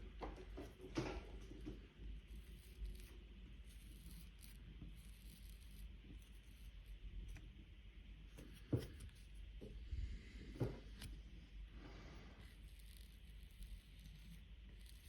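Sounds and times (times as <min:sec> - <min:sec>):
low steady hum: 0:00.0 - 0:15.0
scratching and rubbing handling noise: 0:00.0 - 0:15.0.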